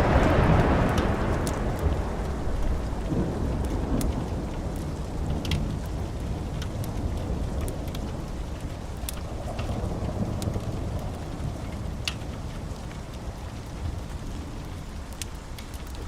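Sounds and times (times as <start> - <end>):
rolling thunder rumble: 0.0 - 15.6
sharp crackles: 0.0 - 16.0
steady rain: 0.0 - 16.0.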